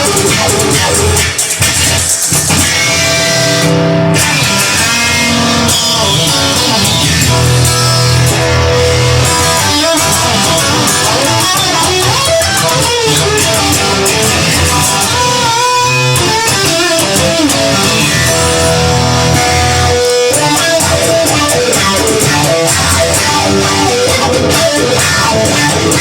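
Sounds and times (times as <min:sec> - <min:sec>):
instrumental rock band: 0:00.0 - 0:26.0.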